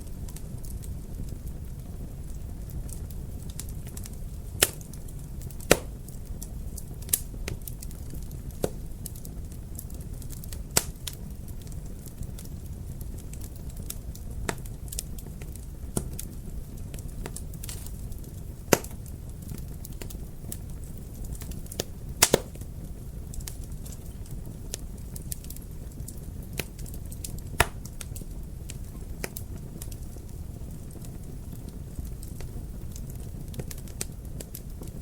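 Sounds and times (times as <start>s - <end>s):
fire pops: 0.0s - 35.0s
fireplace fire crackling: 0.0s - 35.0s.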